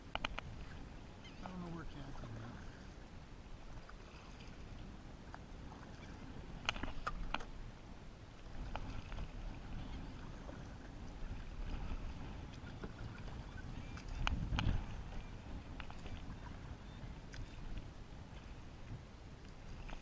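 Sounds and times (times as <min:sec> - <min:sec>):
paddle dipping through water: 0:00.0 - 0:20.0.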